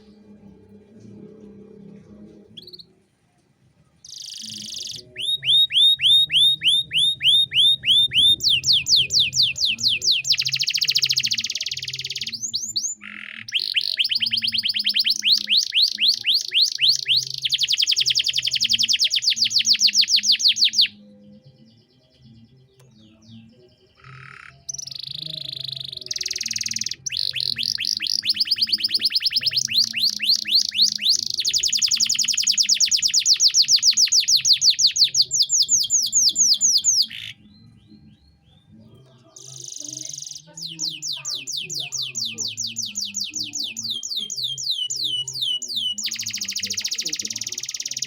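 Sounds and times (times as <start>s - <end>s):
canary singing trills: 4.0s - 48.0s.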